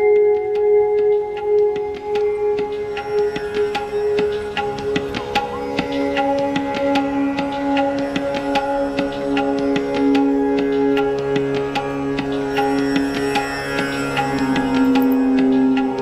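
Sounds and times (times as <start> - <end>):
background music with drone: 0.0 - 16.0.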